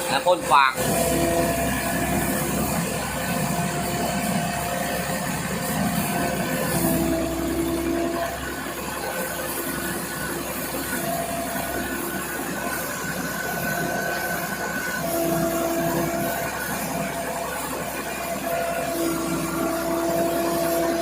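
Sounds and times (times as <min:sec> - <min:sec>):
threshing machine running: 0:00.0 - 0:21.0
whining tones: 0:00.0 - 0:21.0.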